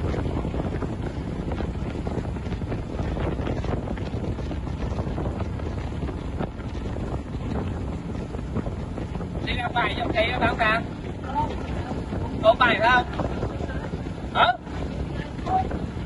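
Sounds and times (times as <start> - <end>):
outboard motor drone: 0.0 - 16.0
water rushing past hull: 0.0 - 16.0
wind buffeting microphone: 0.0 - 16.0.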